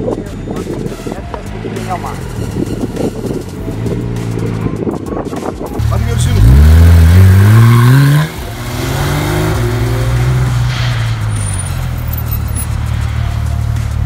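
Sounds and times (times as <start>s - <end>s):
car engine revving: 1.4s - 4.8s, 5.8s - 14.0s.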